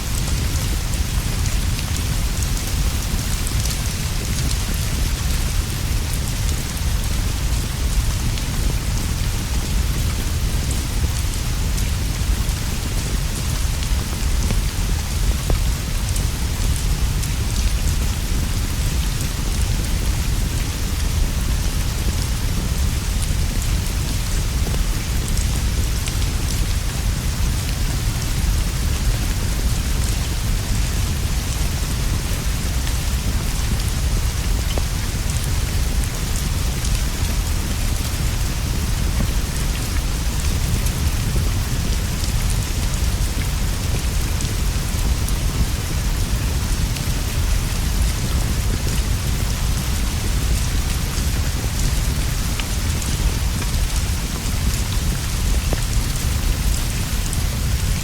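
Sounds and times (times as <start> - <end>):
rain on leaves and straw roof: 0.0 - 58.0.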